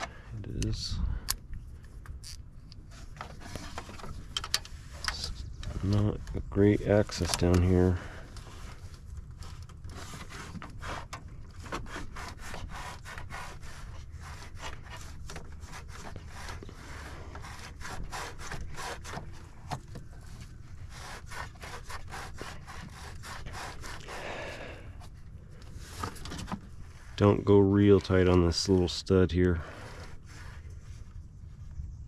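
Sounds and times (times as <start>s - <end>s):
tool scraping: 2.1s - 28.9s.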